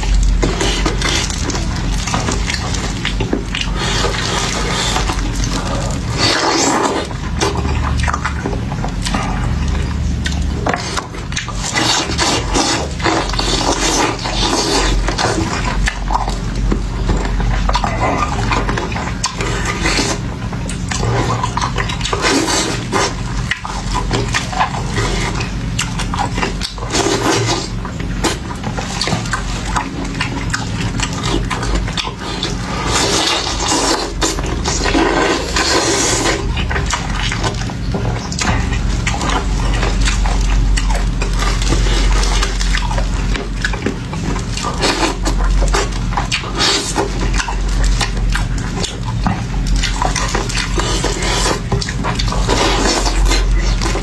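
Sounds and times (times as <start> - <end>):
crunches of food: 0.0 - 54.0
person chewing food: 0.0 - 54.0
steady low hum: 0.0 - 54.0.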